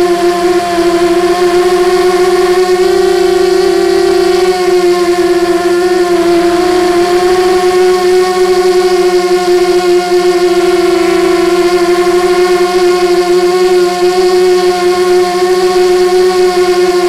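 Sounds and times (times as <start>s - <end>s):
quadcopter motors whining: 0.0s - 16.3s.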